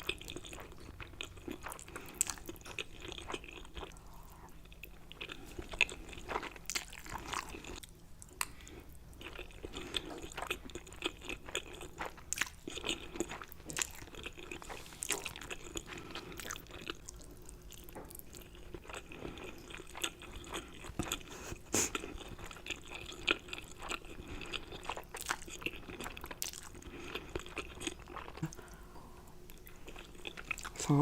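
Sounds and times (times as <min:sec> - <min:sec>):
person chewing with mouth clicks: 0:00.0 - 0:31.0.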